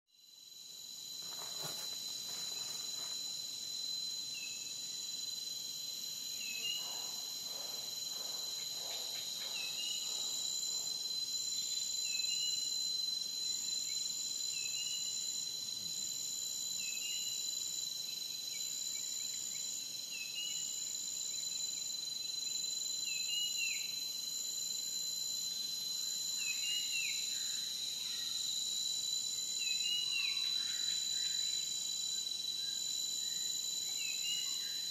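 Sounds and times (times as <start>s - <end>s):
insect trills: 0.1s - 34.9s
short insect chirp: 0.1s - 34.9s.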